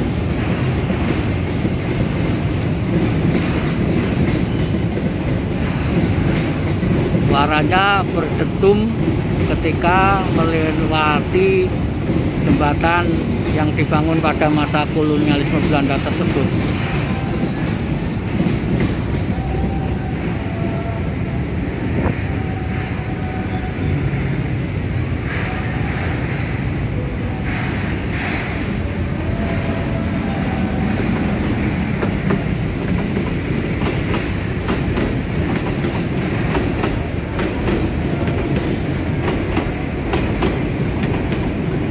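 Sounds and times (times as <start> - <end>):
wheels clacking over rail joints: 0.0 - 20.8, 21.9 - 41.9
train rumbling over bridge: 0.0 - 41.9.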